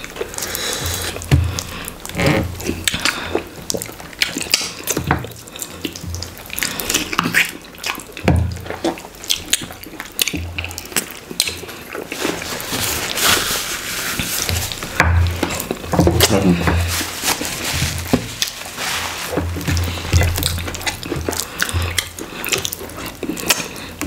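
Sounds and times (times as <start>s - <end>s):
fingers squishing food: 0.0s - 13.4s, 17.9s - 24.0s.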